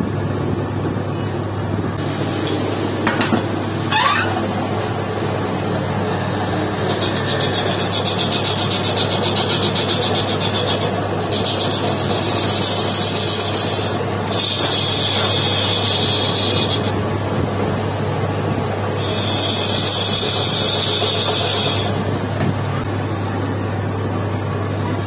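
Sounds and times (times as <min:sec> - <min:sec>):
lathe humming: 0:01.9 - 0:22.3.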